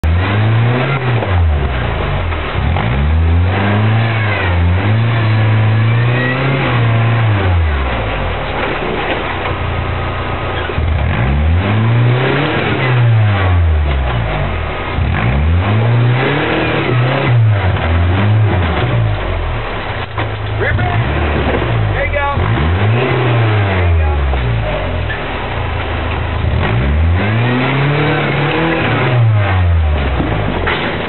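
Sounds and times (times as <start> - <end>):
buggy engine revving: 0.0 - 31.0.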